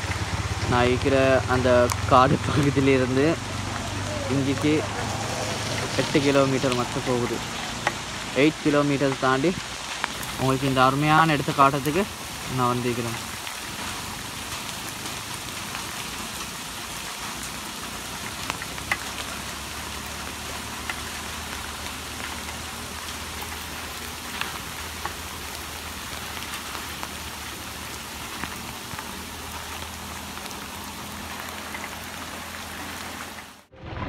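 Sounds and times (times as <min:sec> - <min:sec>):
rain on leaves and water: 0:00.0 - 0:33.7.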